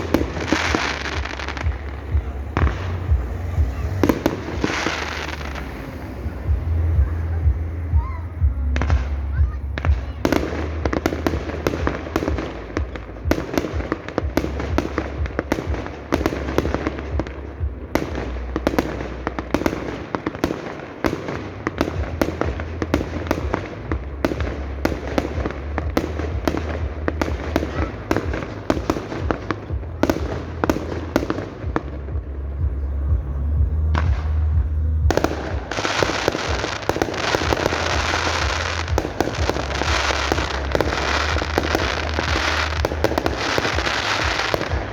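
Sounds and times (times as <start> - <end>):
fireworks bangs: 0.0 - 44.9
fireworks crackling: 0.0 - 44.9.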